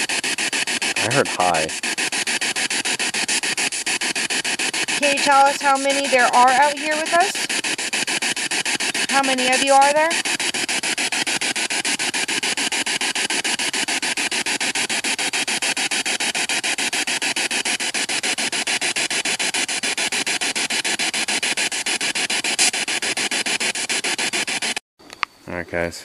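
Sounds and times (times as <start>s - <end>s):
pulsing radio static: 0.0s - 24.8s.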